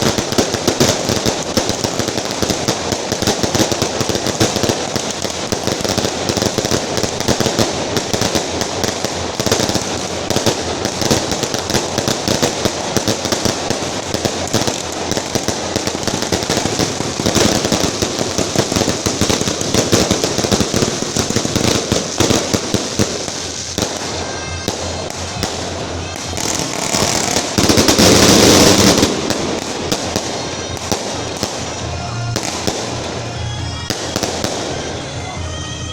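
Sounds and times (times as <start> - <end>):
firecrackers crackling: 0.0 - 35.9
loud firecracker burst: 0.0 - 35.9.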